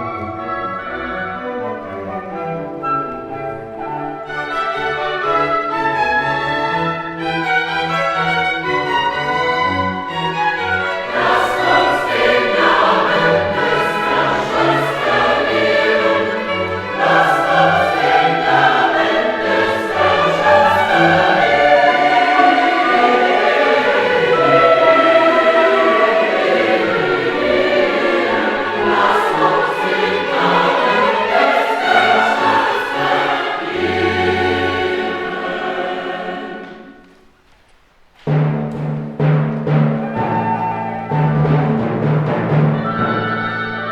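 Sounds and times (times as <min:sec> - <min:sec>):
instrumental accompaniment: 0:00.0 - 0:37.4
choir singing sacred music: 0:00.0 - 0:37.7.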